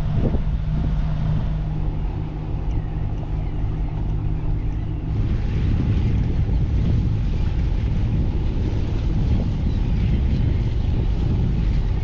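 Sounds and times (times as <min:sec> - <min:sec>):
boat engines humming: 0:00.0 - 0:12.0
wind noise on microphone: 0:00.0 - 0:12.0.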